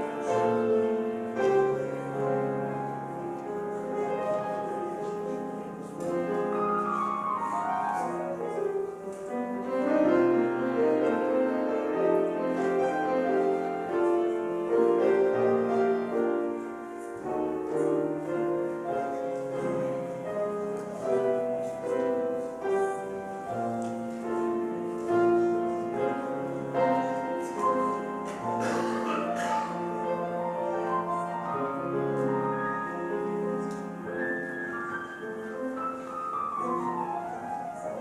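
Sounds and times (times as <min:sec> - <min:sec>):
slow gentle piano music: 0:00.0 - 0:38.0.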